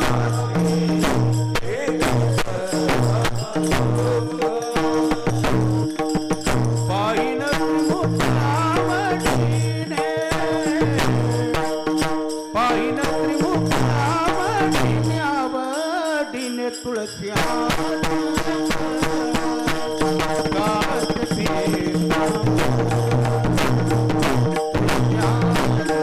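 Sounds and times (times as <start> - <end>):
jingling percussion: 0.0 - 26.0
person singing wavering melody: 0.0 - 26.0.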